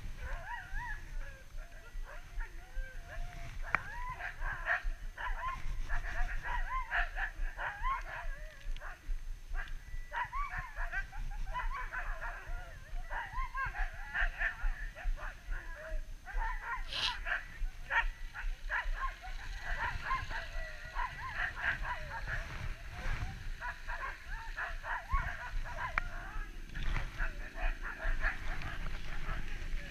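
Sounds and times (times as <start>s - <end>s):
dogs yipping and whining: 0.0s - 29.9s.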